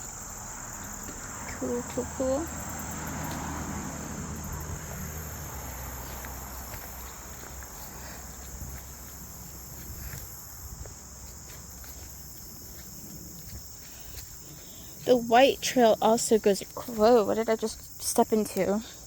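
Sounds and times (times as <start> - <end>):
faint footsteps on trail: 0.0 - 19.0
insects chorus: 0.0 - 19.0.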